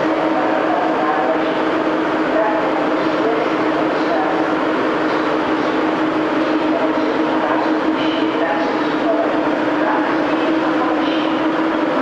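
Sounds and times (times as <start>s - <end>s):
constant hum: 0.0s - 12.0s
train rumble and hiss: 0.0s - 12.0s.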